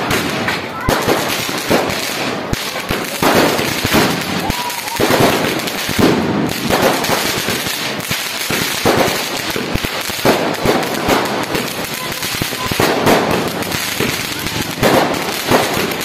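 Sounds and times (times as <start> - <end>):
fireworks popping and crackling: 0.0 - 16.0
fountain firework hissing: 0.8 - 16.0.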